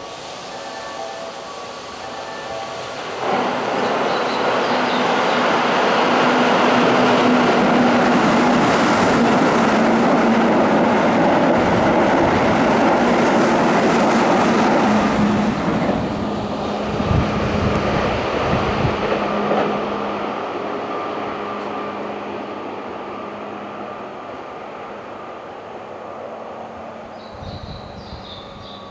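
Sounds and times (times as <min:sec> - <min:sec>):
train wheels rushing: 0:00.0 - 0:24.2.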